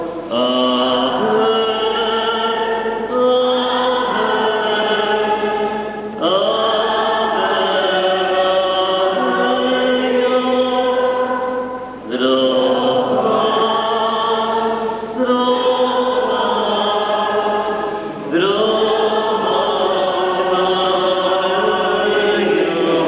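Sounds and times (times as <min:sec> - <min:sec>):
group singing a slow hymn: 0:00.0 - 0:23.0.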